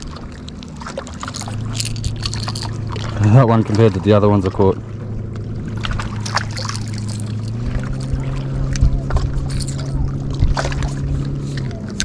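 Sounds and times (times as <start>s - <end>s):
motorboat engine running: 0.0s - 12.0s.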